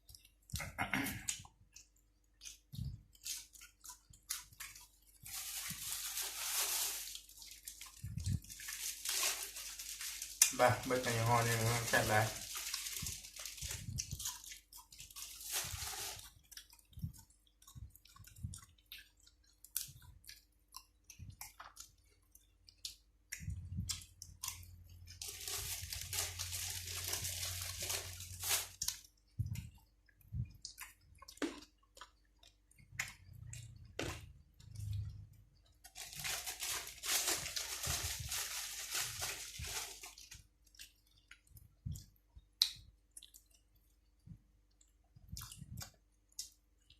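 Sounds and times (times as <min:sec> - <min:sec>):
person chewing and crunching food: 0:00.0 - 0:46.9.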